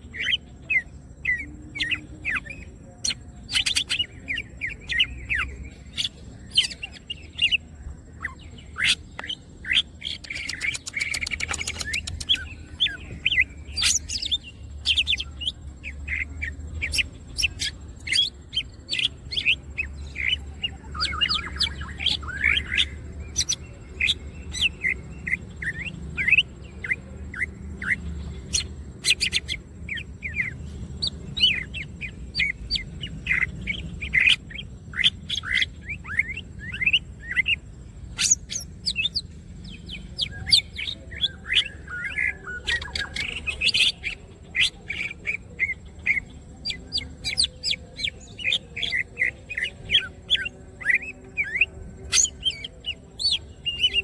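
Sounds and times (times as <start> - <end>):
rapid buzzy bird trill: 0.0 - 54.0.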